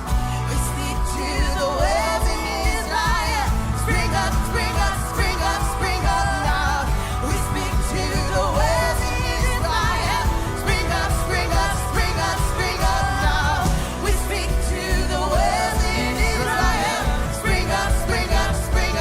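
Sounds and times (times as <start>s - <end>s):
band playing worship music: 0.0s - 19.0s
person singing: 0.0s - 19.0s.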